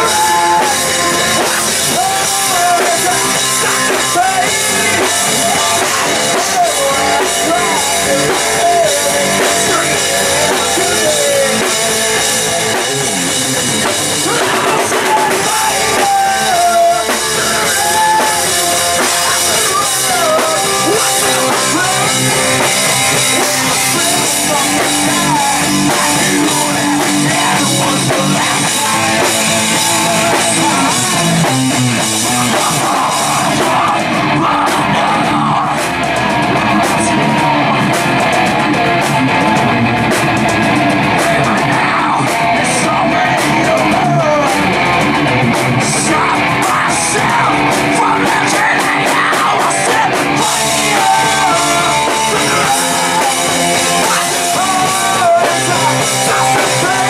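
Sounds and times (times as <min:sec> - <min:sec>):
distorted electric guitars: 0:00.0 - 0:57.0
drum kit: 0:00.0 - 0:57.0.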